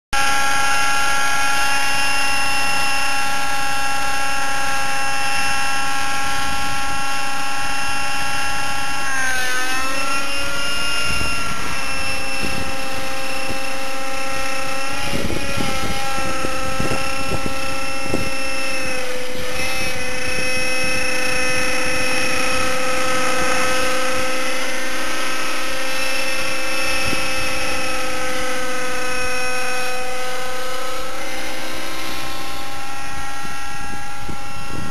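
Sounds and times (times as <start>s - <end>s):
model helicopter engine: 0.1s - 34.9s.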